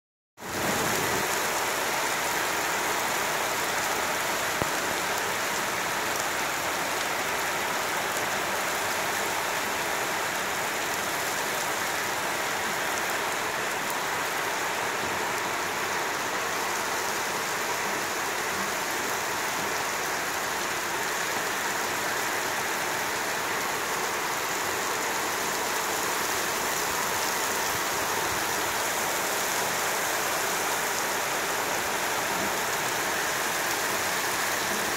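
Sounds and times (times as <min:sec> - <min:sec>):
heavy rain on paving: 0:00.4 - 0:34.9.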